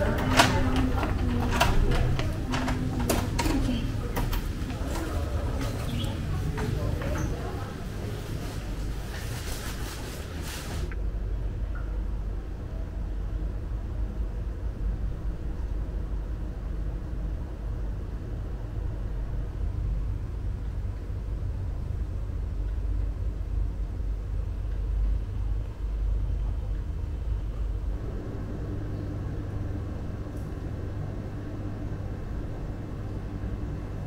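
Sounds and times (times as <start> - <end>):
passenger train rumbling: 0.0 - 34.0.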